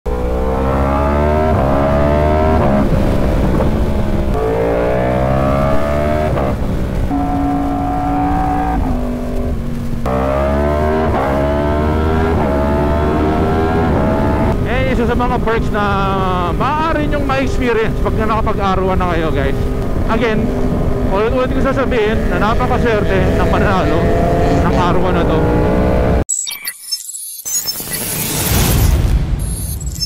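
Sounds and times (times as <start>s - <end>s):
motorcycle engine accelerating: 0.1s - 26.3s.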